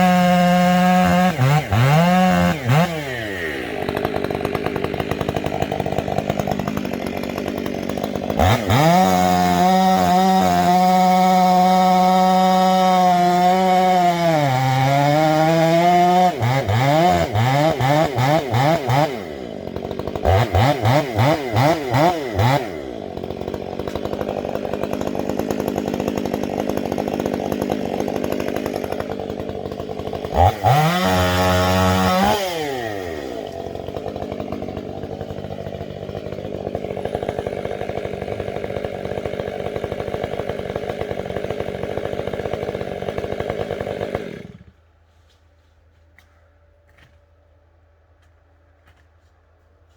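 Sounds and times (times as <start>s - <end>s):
two-stroke chainsaw revving and idling: 0.0s - 44.8s.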